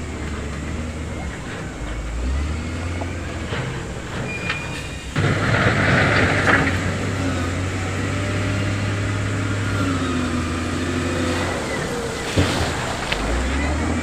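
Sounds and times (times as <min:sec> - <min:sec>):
diesel machinery engine running: 0:00.0 - 0:14.0.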